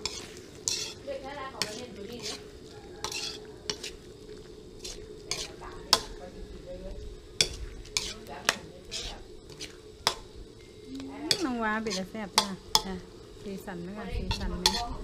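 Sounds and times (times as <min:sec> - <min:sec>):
metal ladle scraping a wok: 0:00.0 - 0:06.6, 0:07.3 - 0:13.1, 0:14.1 - 0:15.0.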